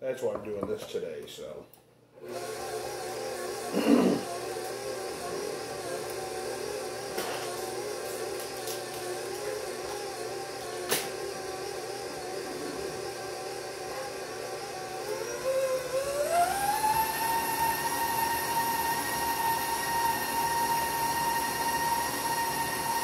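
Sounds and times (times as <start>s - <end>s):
stand mixer motor whining: 2.2s - 23.0s.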